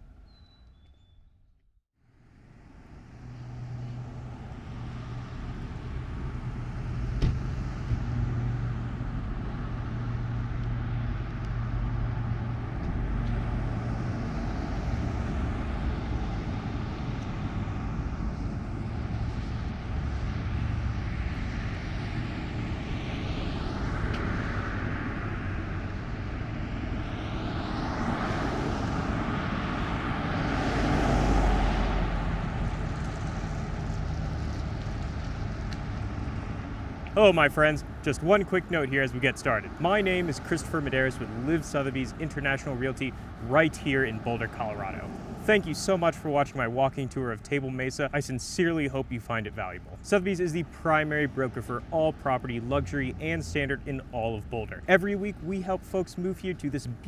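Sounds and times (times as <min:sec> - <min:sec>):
propeller airplane droning: 0:02.2 - 0:57.0.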